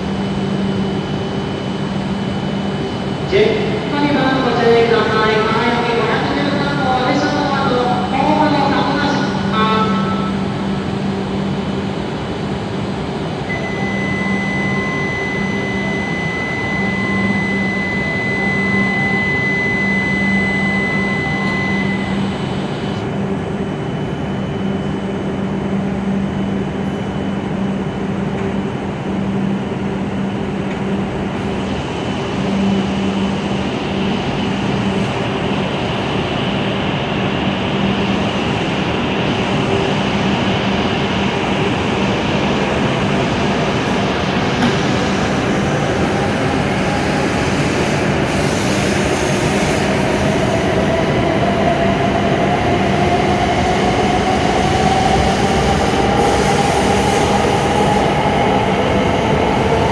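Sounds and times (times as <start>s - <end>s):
train electric hum and rumble: 0.0s - 59.9s.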